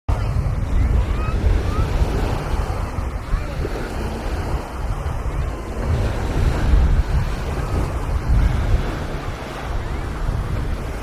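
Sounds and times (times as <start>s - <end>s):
sea surf: 0.1s - 11.0s
wind buffeting microphone: 0.1s - 11.0s.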